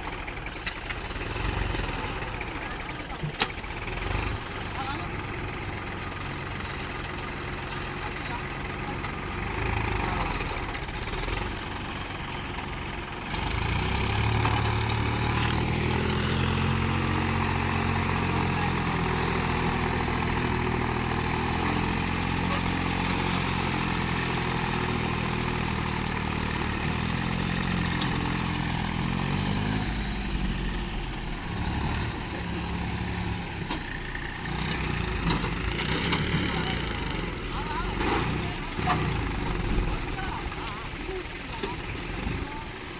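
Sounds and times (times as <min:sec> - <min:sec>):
tractor diesel engine straining: 0:00.0 - 0:42.9.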